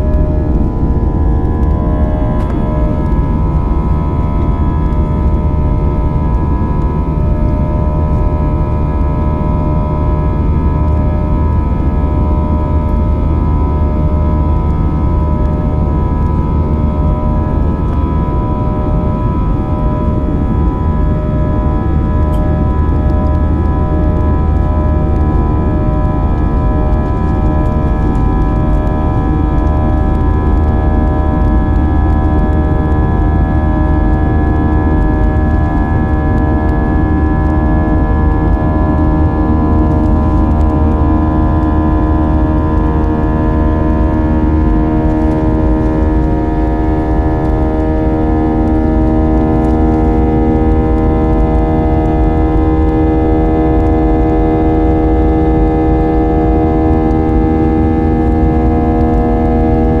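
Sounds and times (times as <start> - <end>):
jet engine drone in cabin: 0.0 - 60.0.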